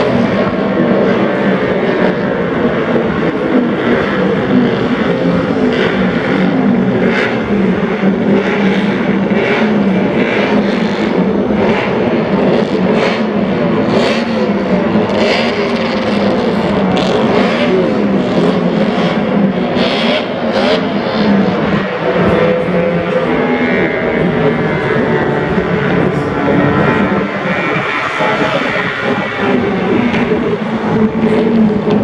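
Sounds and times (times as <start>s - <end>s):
racing motorcycle engines revving: 0.0s - 32.0s.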